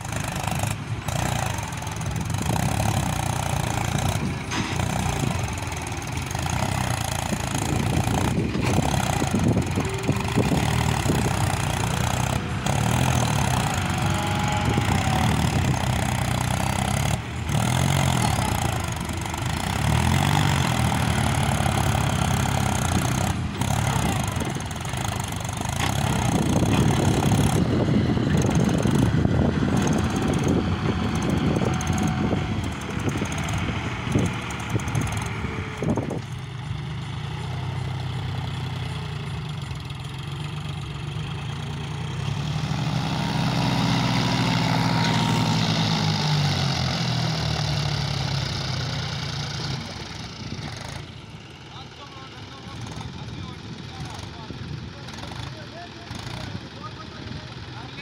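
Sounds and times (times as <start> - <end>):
second tractor engine running: 0.0 - 58.0
tractor engine under load: 0.0 - 58.0.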